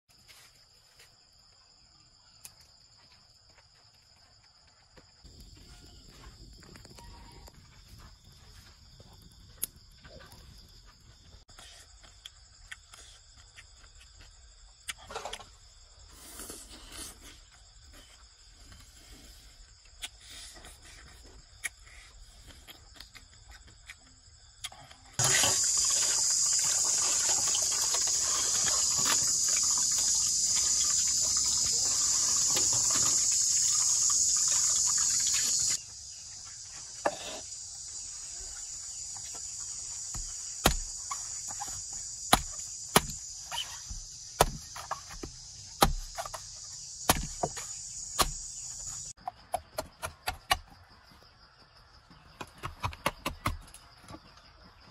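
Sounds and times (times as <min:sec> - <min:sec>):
crickets chirping: 0:00.1 - 0:54.9.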